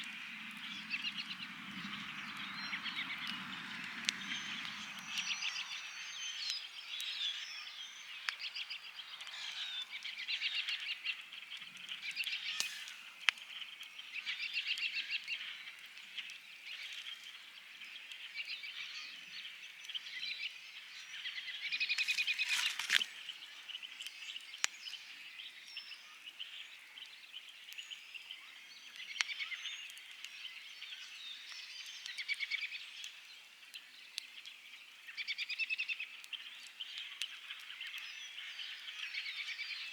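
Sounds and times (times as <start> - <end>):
birds chirping: 0.0 - 39.9
campfire crackling and popping: 0.0 - 39.9.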